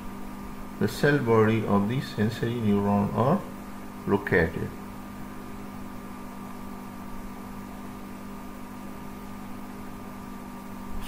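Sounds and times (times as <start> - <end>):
background hum: 0.0 - 11.0
faint high whine: 0.0 - 11.0.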